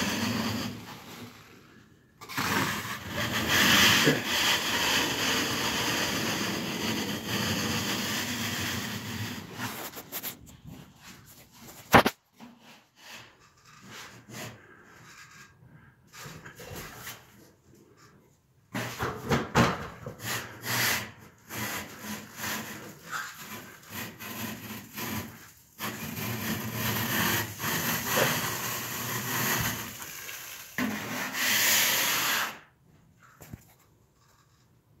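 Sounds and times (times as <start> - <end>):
metal scraper scraping ceiling: 0.0 - 34.8.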